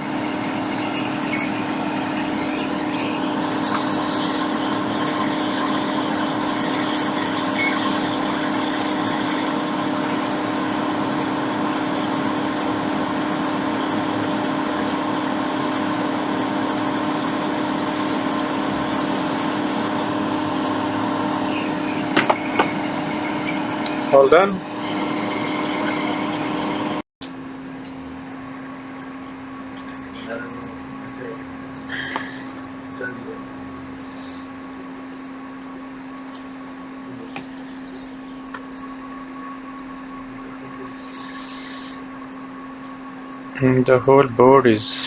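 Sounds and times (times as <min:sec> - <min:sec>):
extractor fan humming: 0:00.0 - 0:45.0.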